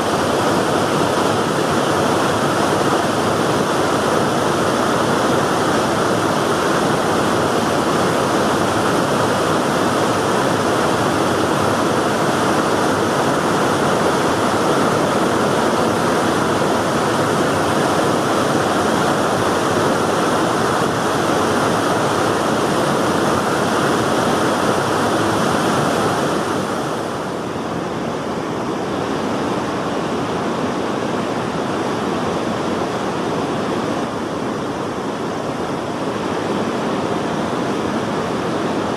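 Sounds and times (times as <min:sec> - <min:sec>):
river water rushing over weir: 0:00.0 - 0:38.9.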